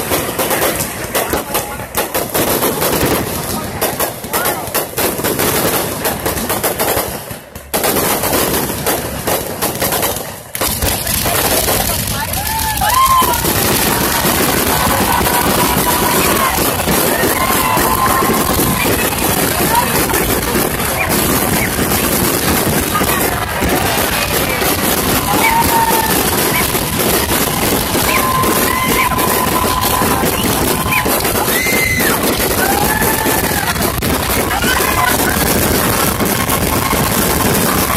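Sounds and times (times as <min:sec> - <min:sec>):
fireworks crackling and popping: 0:00.0 - 0:37.9.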